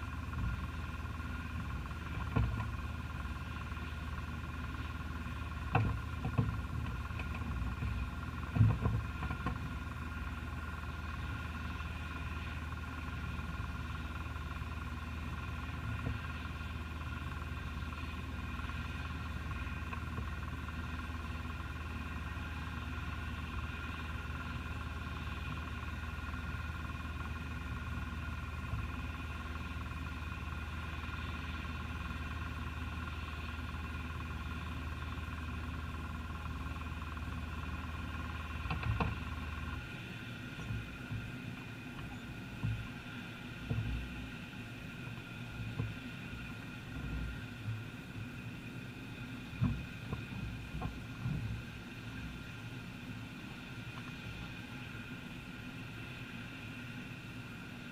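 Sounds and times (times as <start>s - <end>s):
electrical hum and whine: 0.0s - 57.9s.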